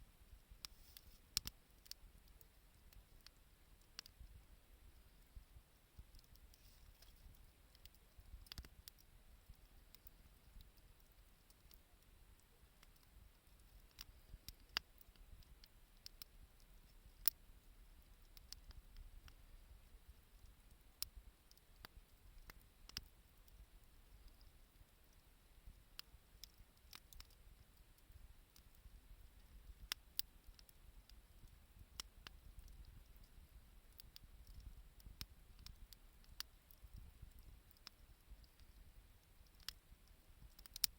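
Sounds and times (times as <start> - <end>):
quiet hiss: 0.0 - 40.9
wood fire crackling: 0.1 - 40.9.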